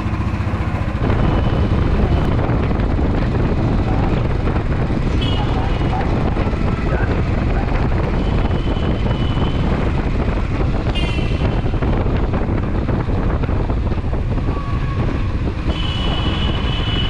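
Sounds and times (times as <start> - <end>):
motorcycle engine and road rumble: 0.0 - 17.0
wind buffeting microphone: 0.0 - 17.0.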